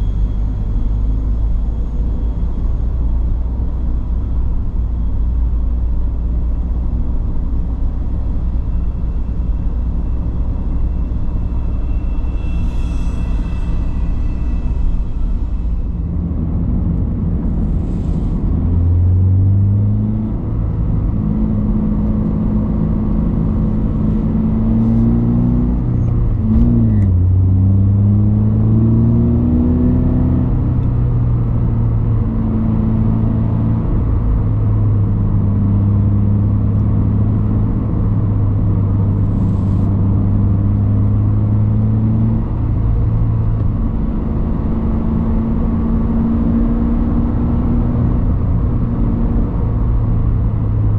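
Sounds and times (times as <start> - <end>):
car engine with low exhaust rumble: 0.0 - 50.9.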